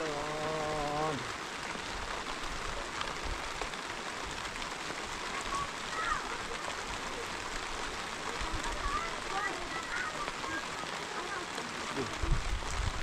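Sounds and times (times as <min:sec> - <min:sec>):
rain drop ticks: 0:00.0 - 0:13.0
steady rain: 0:00.0 - 0:13.0.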